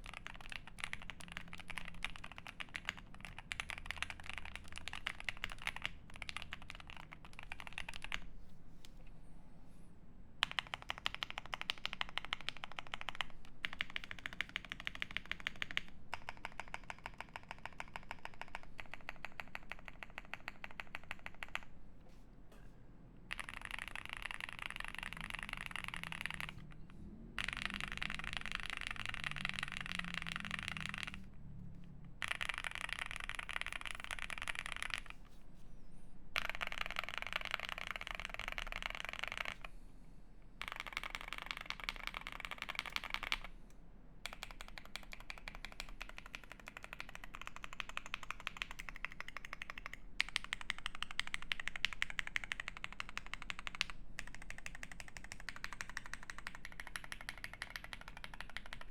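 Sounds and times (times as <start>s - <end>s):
mechanical keyboard typing: 0.0s - 8.3s, 10.4s - 21.7s, 23.3s - 31.3s, 32.1s - 35.2s, 36.4s - 39.7s, 40.6s - 43.6s, 44.2s - 58.9s.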